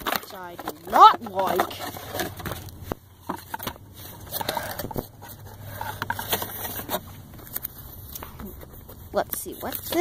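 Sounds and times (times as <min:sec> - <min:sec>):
cardboard box handling: 0:00.0 - 0:10.0.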